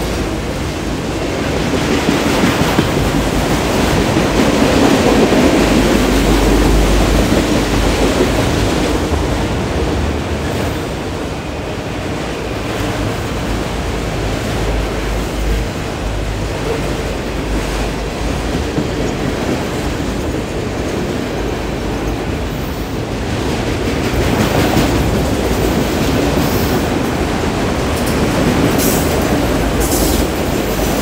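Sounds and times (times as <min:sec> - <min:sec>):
train wheels clattering on rails: 0:00.0 - 0:31.0.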